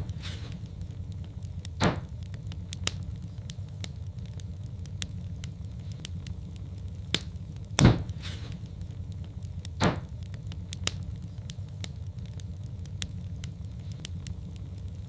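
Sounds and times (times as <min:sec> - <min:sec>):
fire crackling: 0:00.0 - 0:15.0
fire rumbling: 0:00.0 - 0:15.0
loud fire pops: 0:00.0 - 0:15.0.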